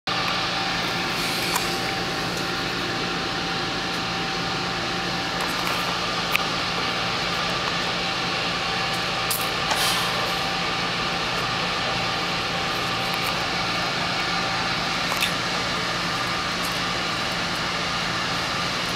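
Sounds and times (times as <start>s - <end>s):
ventilation blowers humming: 0.1s - 18.9s.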